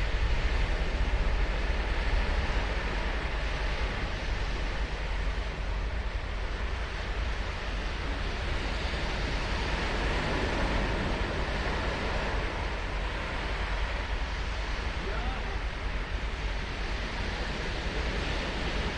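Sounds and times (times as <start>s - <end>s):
ocean surf on beach: 0.0s - 18.9s.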